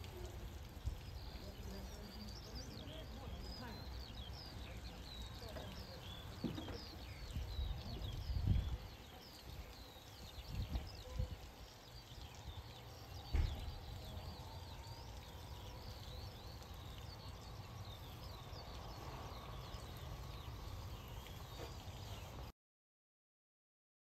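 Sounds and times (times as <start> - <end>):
small birds chirping: 0.0 - 22.5.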